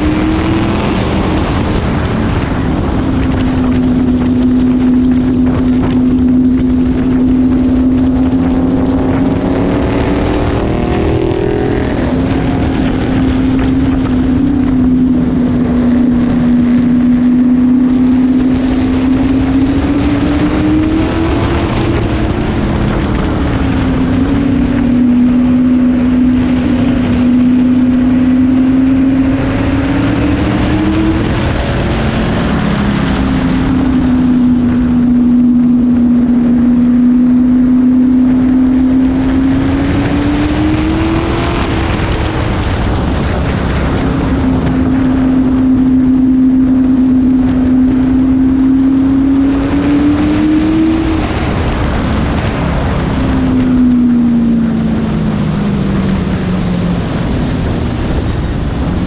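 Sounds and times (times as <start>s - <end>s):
race car engine at speed: 0.0s - 59.0s
wind rushing over microphone: 0.0s - 59.0s.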